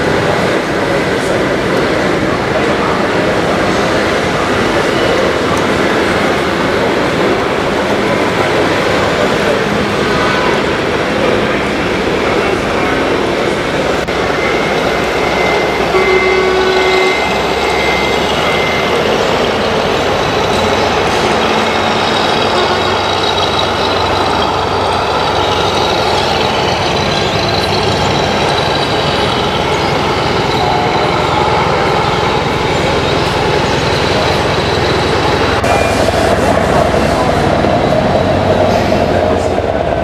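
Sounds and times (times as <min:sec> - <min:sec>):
simulated truck engine sounds: 0:00.0 - 0:40.0.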